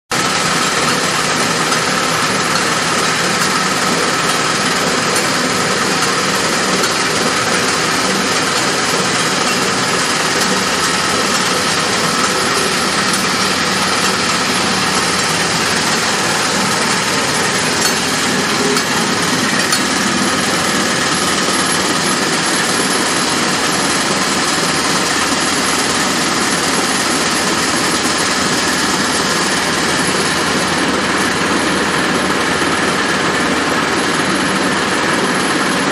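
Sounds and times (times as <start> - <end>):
pump motor running: 0.1 - 35.9.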